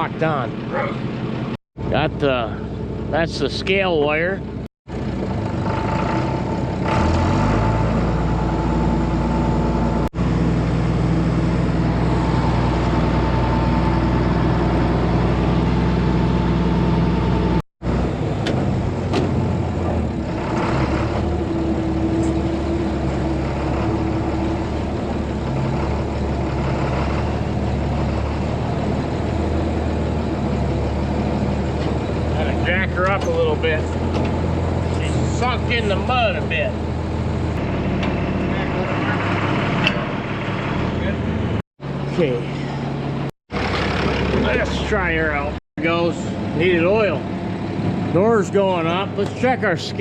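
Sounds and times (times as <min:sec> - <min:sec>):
farm machinery engine humming: 0:00.0 - 0:50.0.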